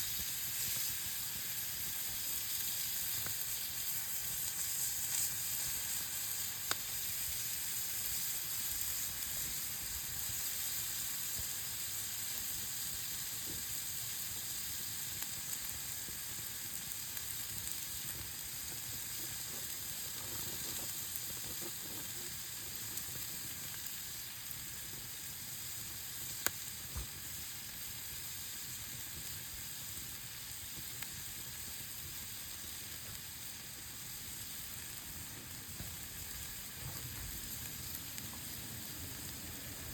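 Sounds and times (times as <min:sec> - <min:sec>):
fire popping: 0:00.0 - 0:39.9
meat sizzling over a campfire: 0:00.0 - 0:39.9.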